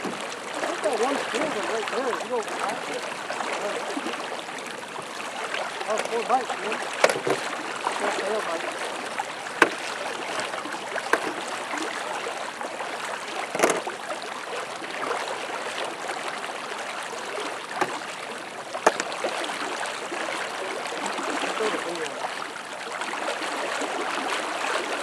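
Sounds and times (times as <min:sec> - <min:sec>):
river current rushing: 0:00.0 - 0:25.0.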